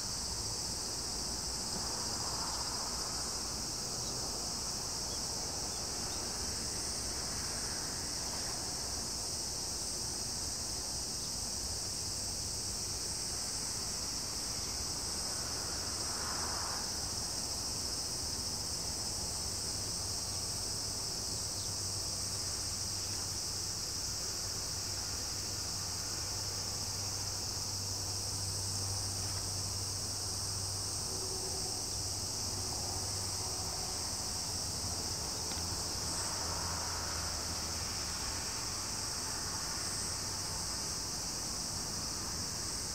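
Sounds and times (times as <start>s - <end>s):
insects buzzing shrilly: 0.0s - 42.9s.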